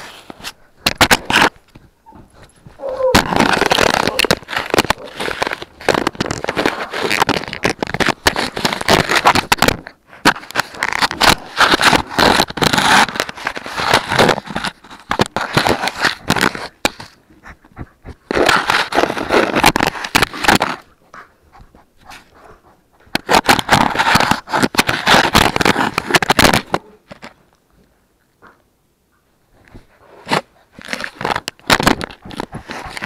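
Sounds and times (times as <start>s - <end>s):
puppies chewing on plastic: 0.0s - 28.7s, 29.6s - 33.0s.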